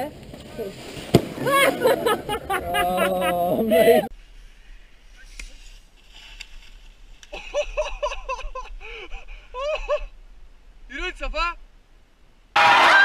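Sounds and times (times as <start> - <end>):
faint steady hiss: 0.0 - 12.6.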